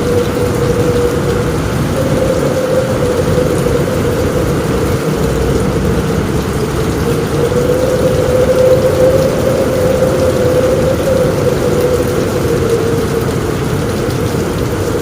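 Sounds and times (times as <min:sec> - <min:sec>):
heavy rain on a roof: 0:00.0 - 0:15.0
low rumble: 0:00.0 - 0:15.0
wavering hum: 0:00.0 - 0:15.0.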